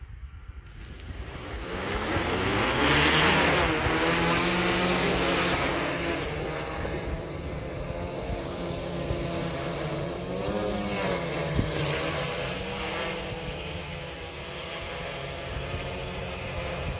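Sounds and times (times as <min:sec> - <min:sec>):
drone rotors whirring: 0:00.0 - 0:16.9
rotor wash rushing: 0:00.8 - 0:16.8.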